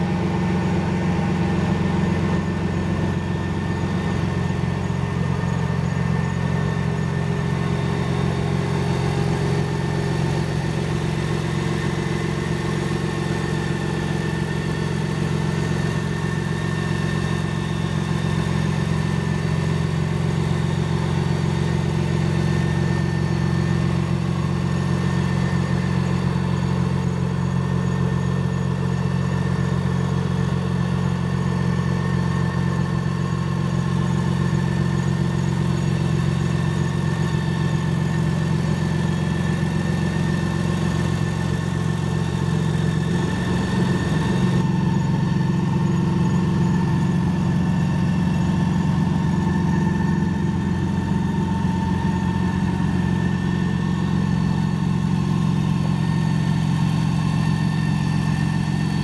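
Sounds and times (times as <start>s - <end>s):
three-wheeler engine idling: 0.0s - 59.0s.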